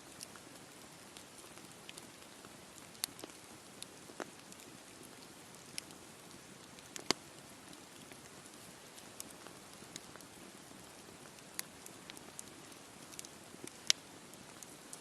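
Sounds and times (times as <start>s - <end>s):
campfire crackling and popping: 0.0s - 15.0s
steady fire hiss: 0.0s - 15.0s.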